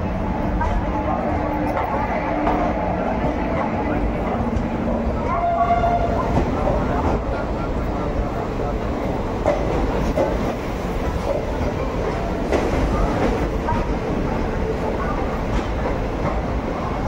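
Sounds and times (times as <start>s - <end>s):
train coach rumble: 0.0s - 17.0s.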